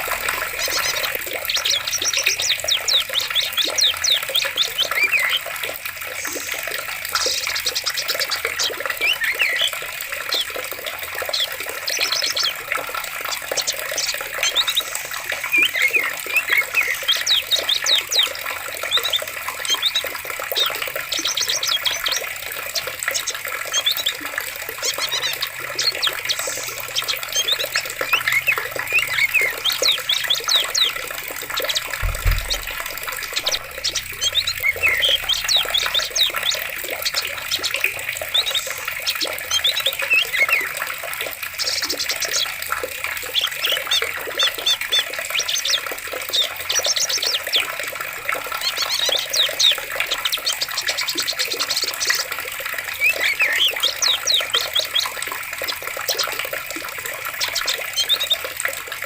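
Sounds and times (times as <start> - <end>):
songbirds chirping and trilling: 0.0 - 59.0
stream water flowing: 0.0 - 59.0.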